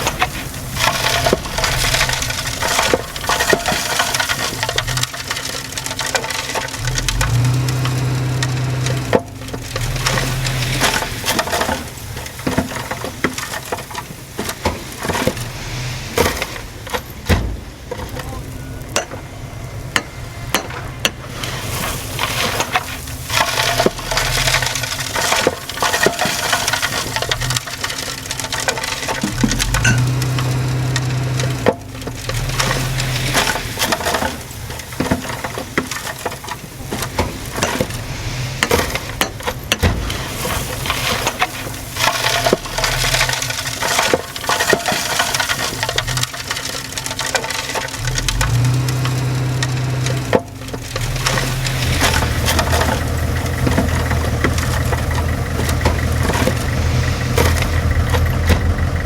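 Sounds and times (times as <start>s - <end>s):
tracks crunching soil: 0.0s - 19.4s, 20.0s - 59.0s
bulldozer diesel engine: 0.0s - 59.0s.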